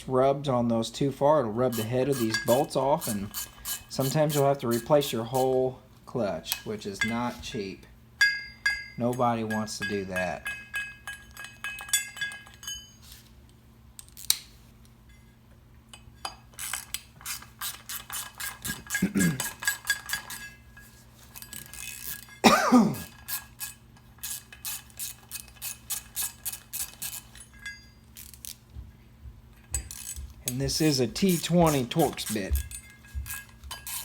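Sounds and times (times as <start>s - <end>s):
metal tools clinking: 1.6s - 13.3s, 15.1s - 28.6s, 29.6s - 34.0s.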